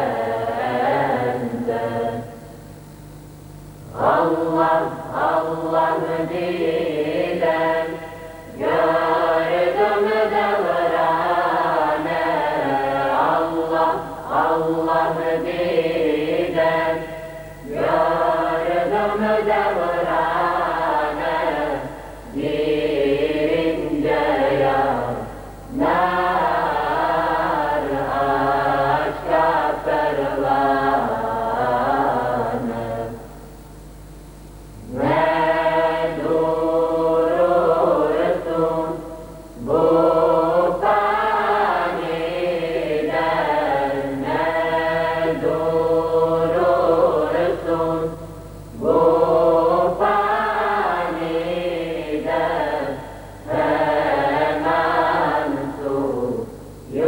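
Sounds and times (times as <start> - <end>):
male choir singing a hymn: 0.0 - 2.4, 3.9 - 33.2, 34.8 - 57.0.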